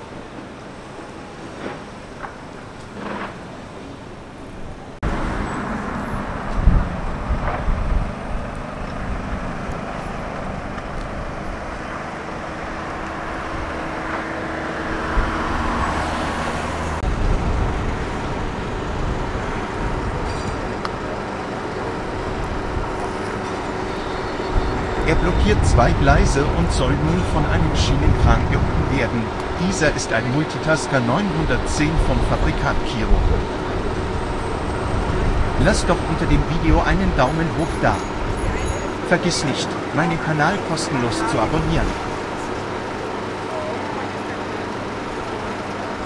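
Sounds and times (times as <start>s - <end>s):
vehicle engines rumbling: 0.0s - 46.0s.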